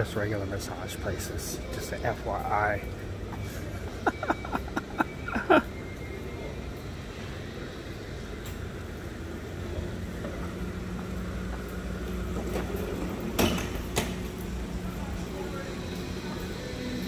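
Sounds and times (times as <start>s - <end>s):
low vehicle engine drone: 0.0s - 17.0s
traffic hum: 0.0s - 17.0s.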